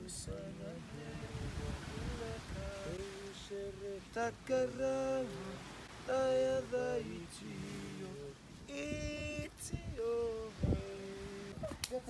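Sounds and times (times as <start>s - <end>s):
man singing a slow chant: 0.0s - 11.6s.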